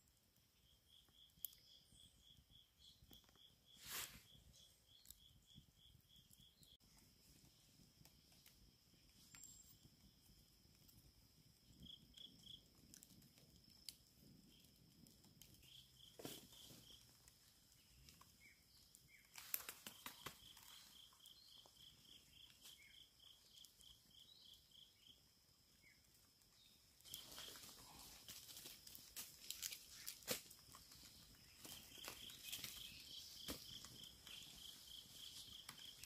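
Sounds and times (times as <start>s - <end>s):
insect chirping: 0.1s - 36.0s
insect drone: 0.4s - 36.0s.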